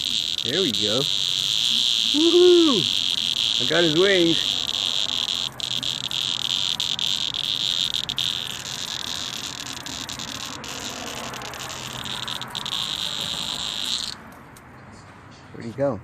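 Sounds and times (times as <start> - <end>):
cicada buzzing: 0.0 - 14.4.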